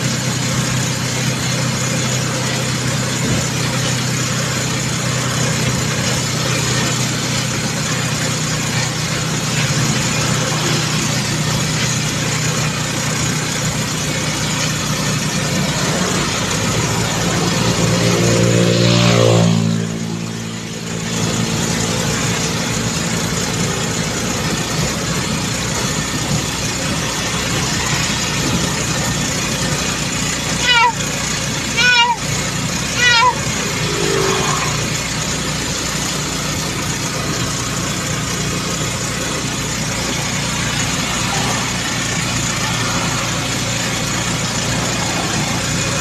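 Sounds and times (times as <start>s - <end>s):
vehicle engine running: 0.0s - 46.0s.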